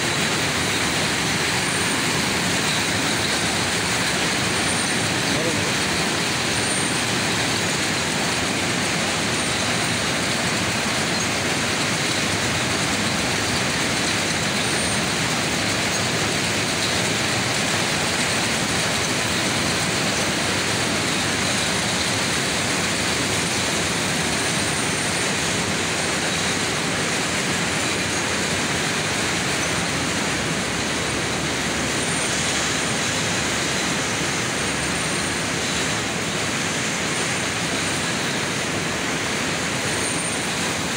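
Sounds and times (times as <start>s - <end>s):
mill machines running: 0.0s - 40.9s.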